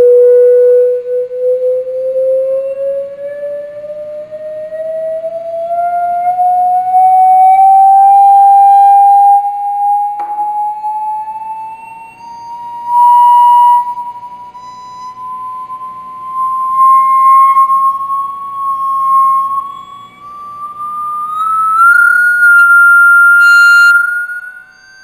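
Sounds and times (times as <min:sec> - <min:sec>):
whistle-like rising tone: 0:00.0 - 0:25.0.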